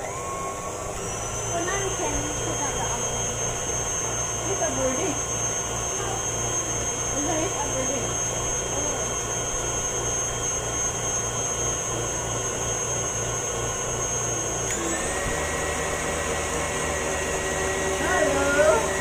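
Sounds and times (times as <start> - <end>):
stand mixer motor whine: 0.0 - 19.0.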